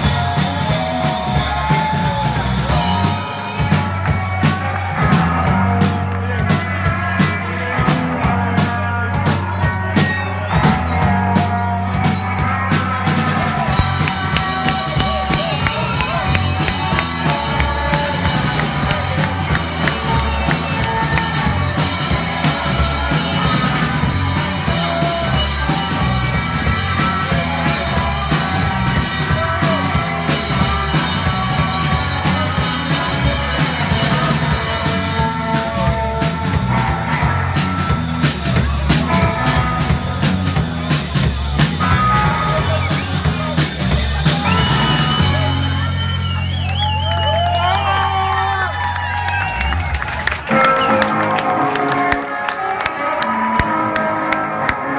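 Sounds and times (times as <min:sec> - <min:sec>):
drum kit with cymbal crashes: 0:00.0 - 0:47.4
electric guitars: 0:00.0 - 0:54.9.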